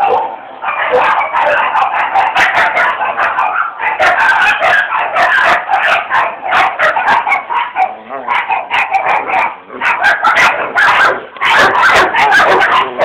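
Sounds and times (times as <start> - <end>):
dog yips and whines: 0.0 - 13.0.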